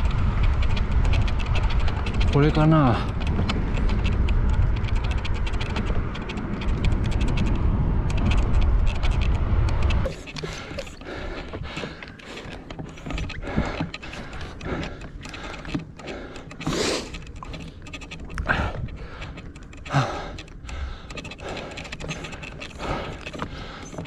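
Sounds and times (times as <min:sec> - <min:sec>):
quick ticking: 0:00.0 - 0:24.0
small clicks and rustles: 0:00.0 - 0:24.0
wind rumbling on microphone: 0:00.0 - 0:24.0.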